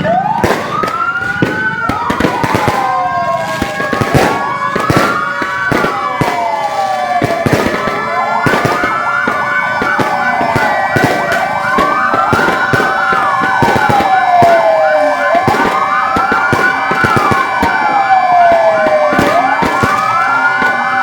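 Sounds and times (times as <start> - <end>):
fire engine sirens wailing: 0.0 - 21.0
firecrackers popping: 0.0 - 21.0.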